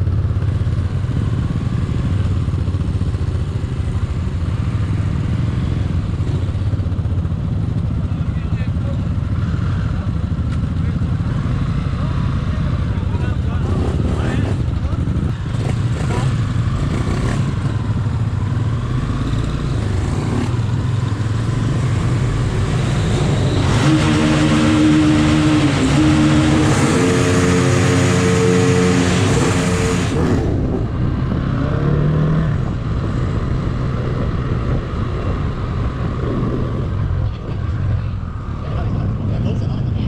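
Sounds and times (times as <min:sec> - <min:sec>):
motorcycle engine revving through gears: 0:00.0 - 0:07.9, 0:09.1 - 0:38.6.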